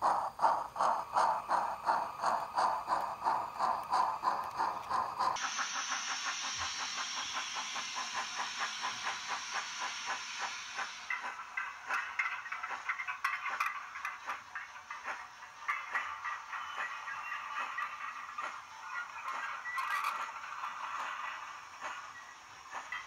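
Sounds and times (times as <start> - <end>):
model train hiss: 0.0 - 23.0
model train wheels clicking: 0.0 - 23.0.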